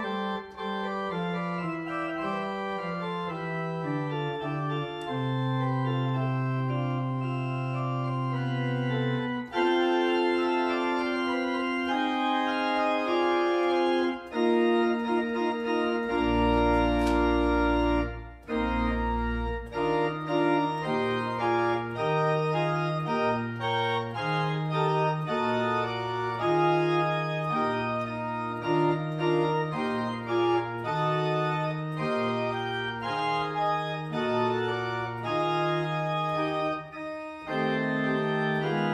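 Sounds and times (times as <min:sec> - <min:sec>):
church organ playing: 0:00.0 - 0:38.9.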